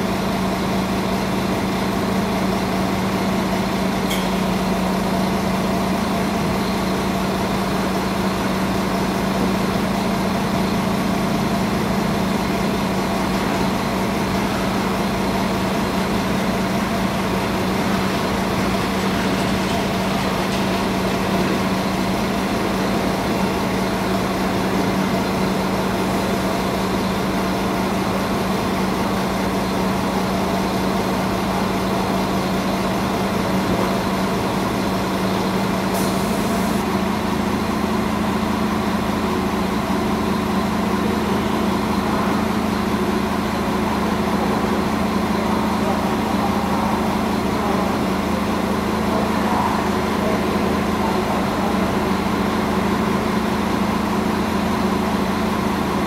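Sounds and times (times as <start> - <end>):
train machine hum: 0.0 - 56.0.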